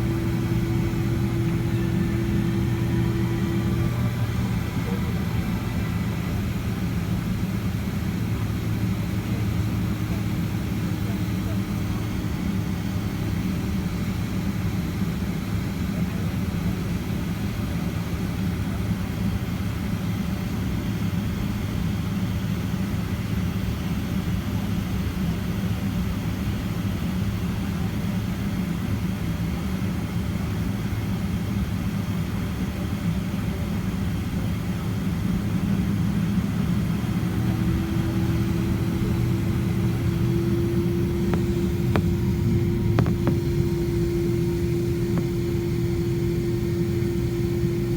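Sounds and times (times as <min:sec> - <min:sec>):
aircraft cabin engine hum: 0:00.0 - 0:47.9.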